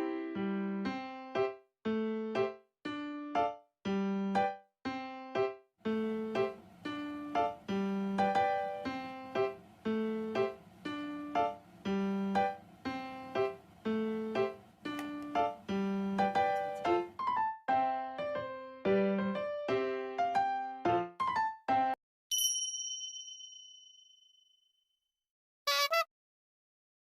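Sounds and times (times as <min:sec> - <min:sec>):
bouncy piano melody: 0:00.0 - 0:22.0.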